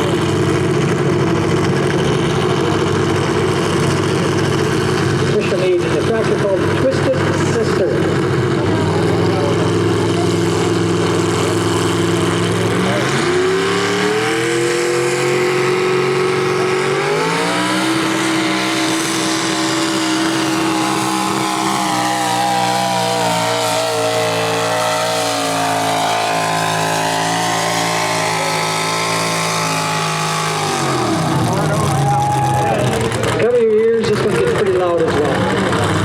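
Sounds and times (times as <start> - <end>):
tractor engine running hard: 0.0 - 36.0.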